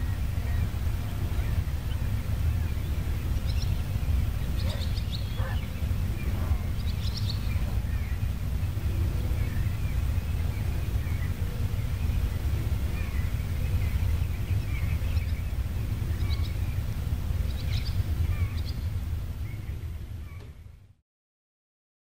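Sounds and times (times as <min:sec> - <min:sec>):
bird chirps and calls: 0:00.0 - 0:20.6
steady low rumble: 0:00.0 - 0:21.0.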